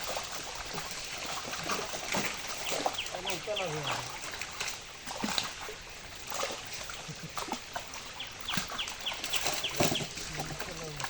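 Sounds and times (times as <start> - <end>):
water splashes and knocks: 0.0 - 11.0.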